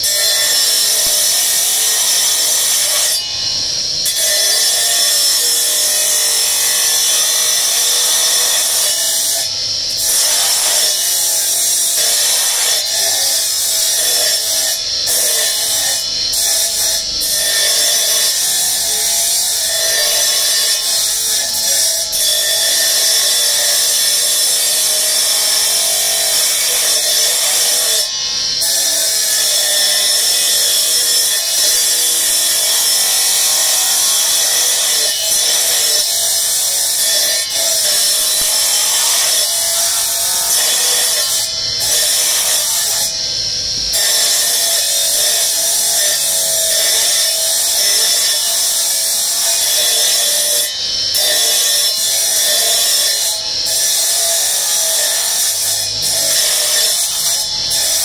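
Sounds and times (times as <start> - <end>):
grinding wheel on stone: 0.0 - 58.0.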